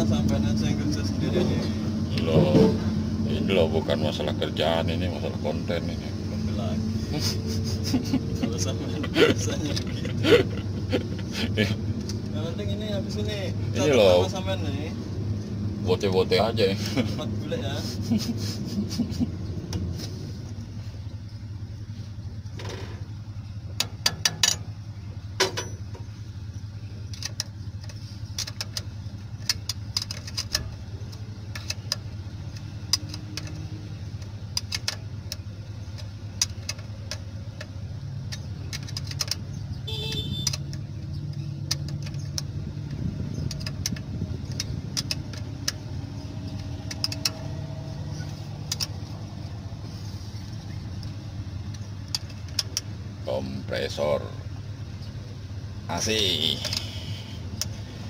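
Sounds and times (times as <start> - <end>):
low engine hum: 0.0 - 58.0.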